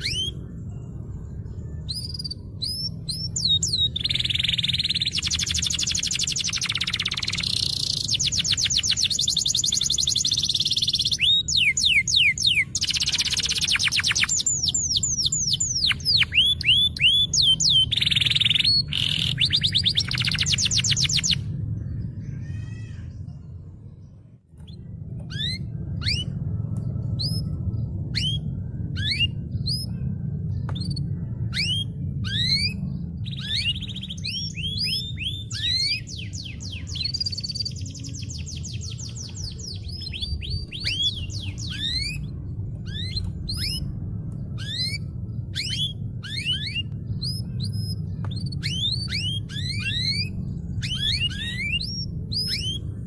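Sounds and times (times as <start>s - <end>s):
canary singing chirps: 0.0s - 53.0s
steady low hum: 0.0s - 53.0s.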